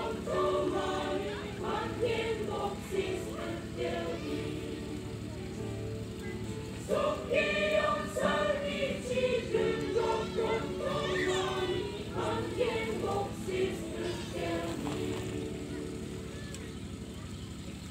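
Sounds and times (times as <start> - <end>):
mixed choir singing: 0.0 - 5.7, 6.7 - 16.2.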